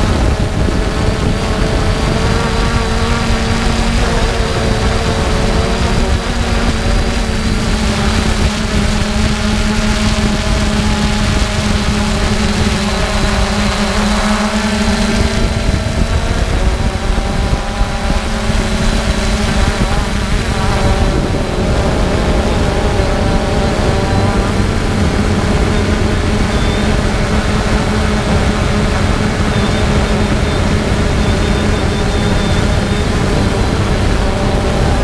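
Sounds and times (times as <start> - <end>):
drone propellers humming: 0.0 - 35.0.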